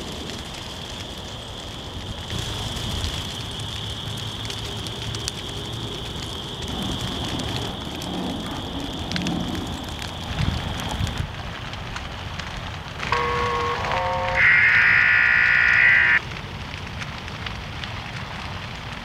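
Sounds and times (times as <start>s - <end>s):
fire crackling and popping: 0.0s - 19.0s
flames rushing: 0.0s - 19.0s.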